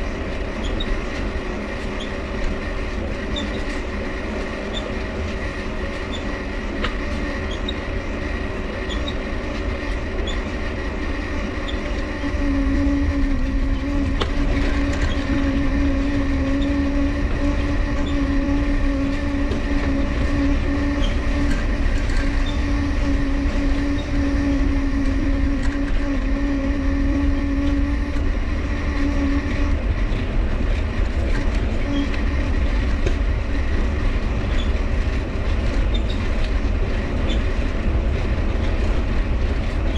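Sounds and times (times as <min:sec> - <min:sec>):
bicycle dynamo whining: 0:00.0 - 0:39.9.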